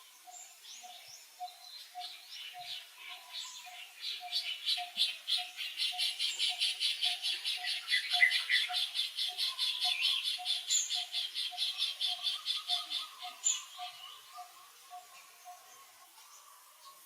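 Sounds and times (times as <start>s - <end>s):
rhythmic pulsing animal calls: 2.0s - 17.0s.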